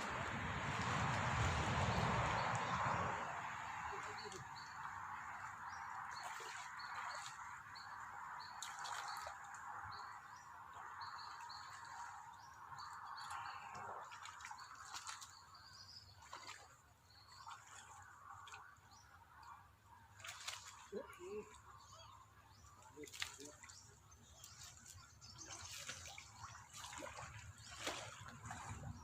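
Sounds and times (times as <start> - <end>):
small splashes: 0.0 - 19.5, 20.1 - 29.0
water trickling and dripping: 0.0 - 29.0.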